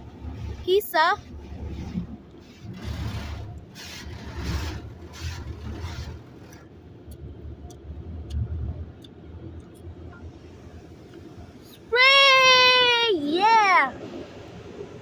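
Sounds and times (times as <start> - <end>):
car wash machinery rumbling: 0.0 - 15.0
car wash swishing: 0.0 - 15.0.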